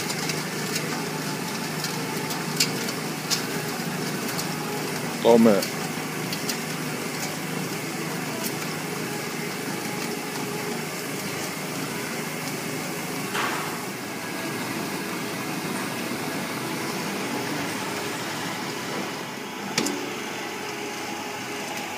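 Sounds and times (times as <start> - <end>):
mixer motor hum: 0.0 - 21.9.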